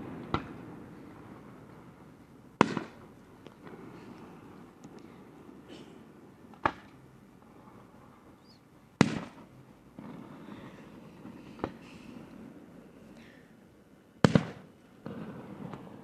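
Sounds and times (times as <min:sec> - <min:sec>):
fireworks bangs: 0:00.0 - 0:07.1, 0:08.4 - 0:12.9, 0:14.2 - 0:16.0
low rumbling and crackle: 0:00.0 - 0:16.0.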